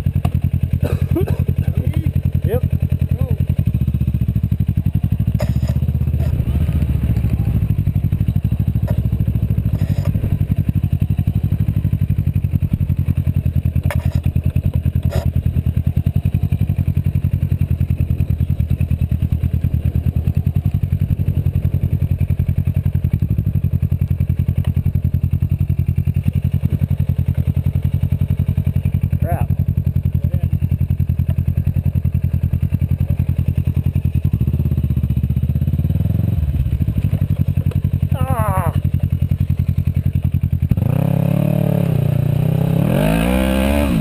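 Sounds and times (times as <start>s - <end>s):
motorcycle engine idling: 0.0s - 44.0s.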